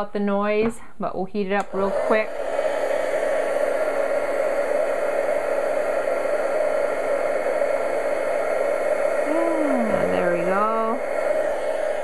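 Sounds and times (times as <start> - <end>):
heat tool blower whirring: 1.6 - 12.0.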